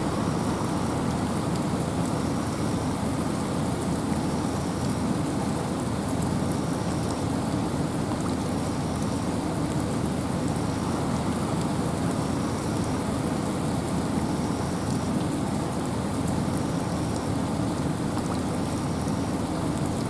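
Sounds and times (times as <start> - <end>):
steady rain in forest: 0.0 - 20.0
wind: 0.0 - 20.0.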